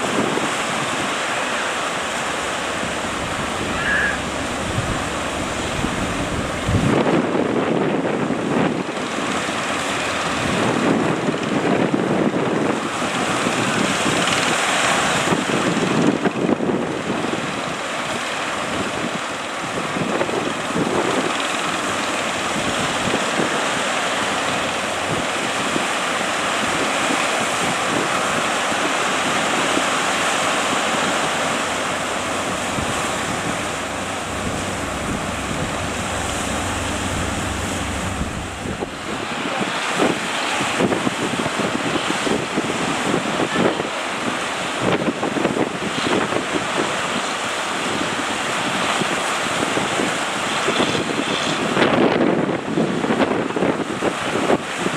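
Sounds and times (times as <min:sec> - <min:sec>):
surf breaking and washing: 0:00.0 - 0:54.9
wind buffeting microphone: 0:00.0 - 0:54.9.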